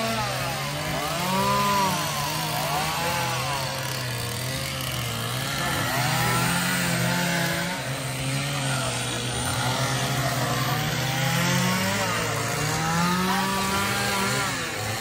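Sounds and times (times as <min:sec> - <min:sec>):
chainsaws revving: 0:00.0 - 0:15.0.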